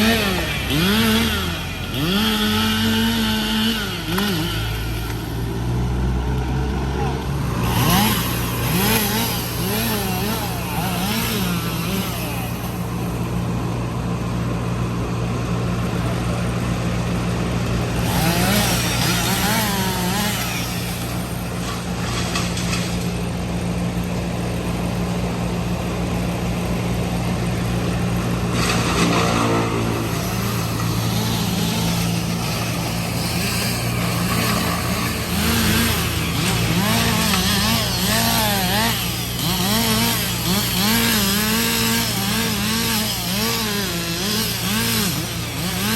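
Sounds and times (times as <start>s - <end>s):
chainsaw cutting: 0.0s - 14.5s, 15.2s - 45.9s
large engine running: 0.0s - 45.9s.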